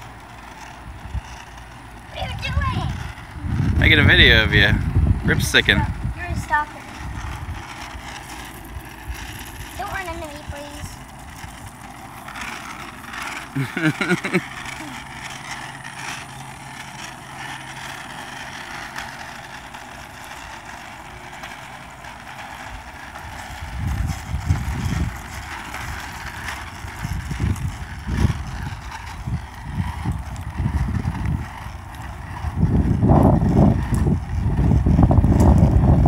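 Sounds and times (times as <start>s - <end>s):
small wheels rolling on asphalt: 0.0s - 36.0s
wind buffeting microphone: 0.0s - 36.0s.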